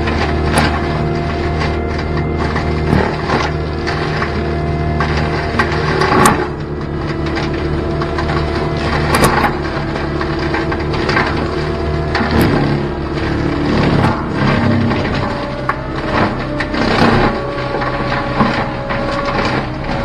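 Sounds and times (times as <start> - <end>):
diesel engine under load: 0.0 - 20.0
mulcher shredding brush: 0.0 - 20.0
wood cracking and splintering: 0.0 - 20.0.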